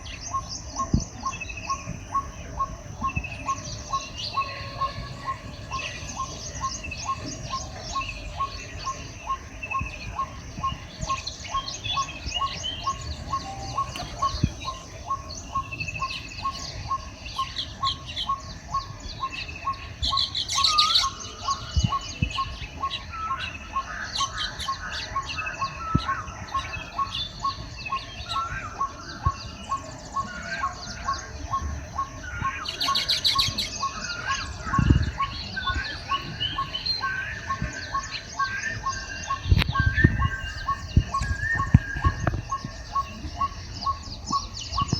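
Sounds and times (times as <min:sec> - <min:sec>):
birds chirping and chattering: 0:00.0 - 0:44.9
steady ticking bird call: 0:00.0 - 0:44.9.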